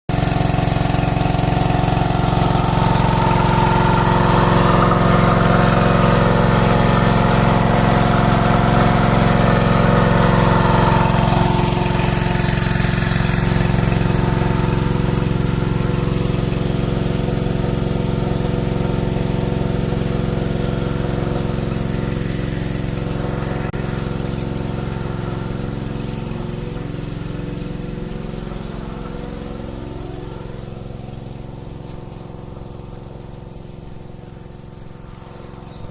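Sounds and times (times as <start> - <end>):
water pump engine running: 0.1 - 35.9.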